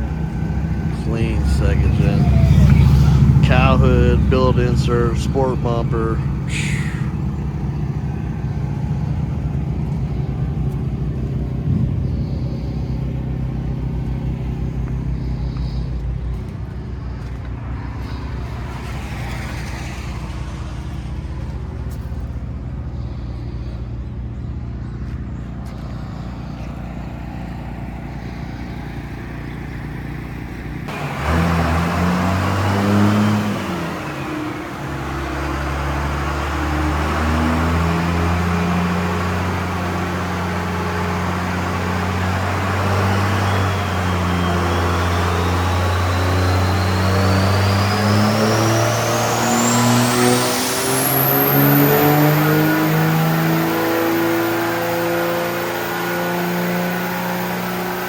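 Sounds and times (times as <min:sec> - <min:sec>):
diesel engines idling: 0:00.0 - 0:58.0
engine revving: 0:00.0 - 0:58.0.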